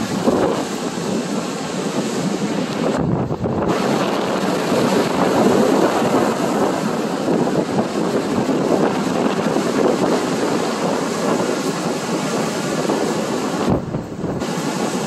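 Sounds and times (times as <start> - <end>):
waves breaking on pebble beach: 0.0 - 15.0
wind buffeting microphone: 0.0 - 15.0.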